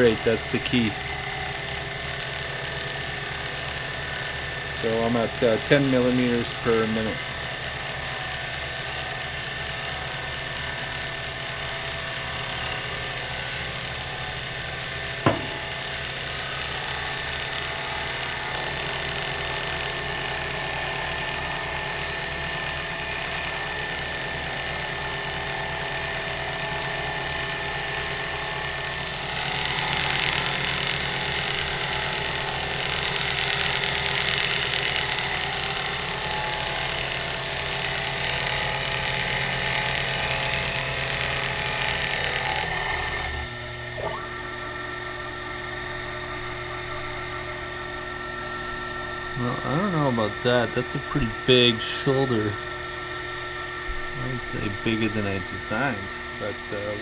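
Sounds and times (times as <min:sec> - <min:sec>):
milling machine spindle whining: 0:00.0 - 0:57.0.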